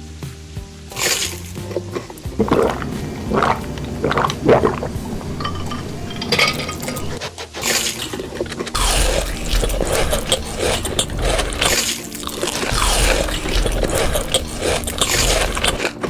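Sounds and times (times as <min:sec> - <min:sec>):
wet slurping and swallowing: 0:02.4 - 0:08.1, 0:08.8 - 0:16.0.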